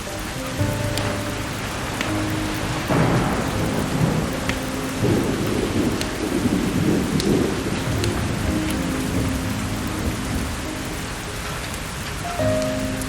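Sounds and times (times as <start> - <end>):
steady rain: 0.0 - 13.0
thunder rumbling: 0.0 - 13.0
wood fire crackling: 0.0 - 13.0.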